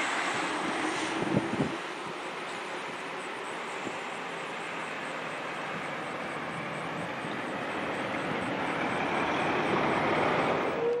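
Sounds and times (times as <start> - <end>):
rushing road traffic: 0.0 - 11.0.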